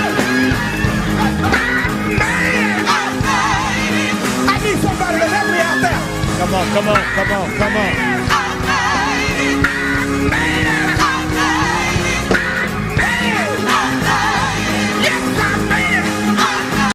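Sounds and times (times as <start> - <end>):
live soul-gospel band: 0.0 - 16.9.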